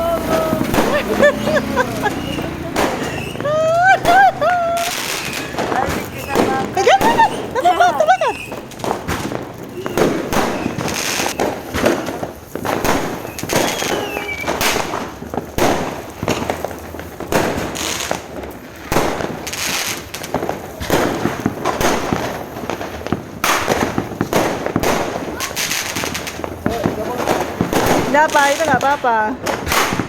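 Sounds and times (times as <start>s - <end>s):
fireworks bangs and cracks: 0.0s - 30.0s.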